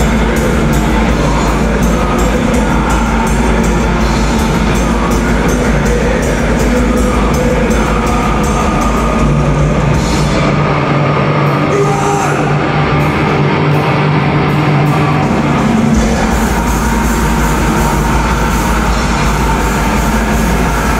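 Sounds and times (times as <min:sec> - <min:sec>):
held distorted guitar chords: 0:00.0 - 0:20.9
metal band playing live: 0:00.0 - 0:20.9.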